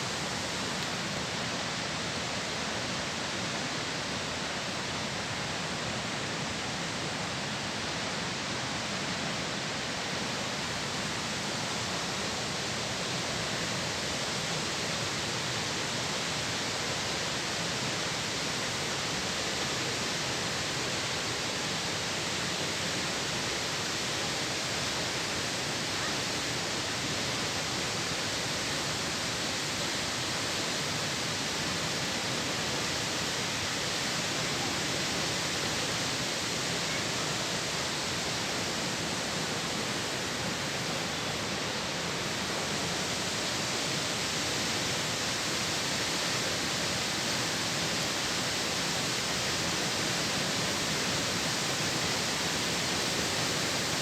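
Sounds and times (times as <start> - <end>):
water rushing down spillway: 0.0 - 54.0.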